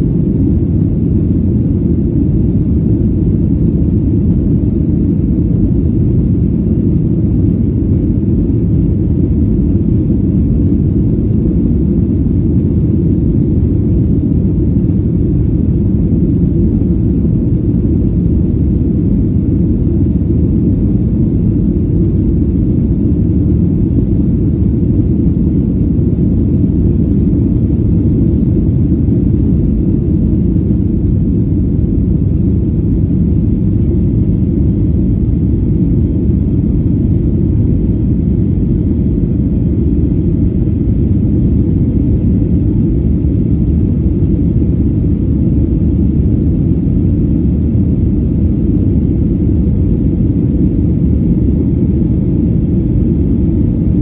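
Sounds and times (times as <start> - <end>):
jet engine rumble: 0.0 - 54.0.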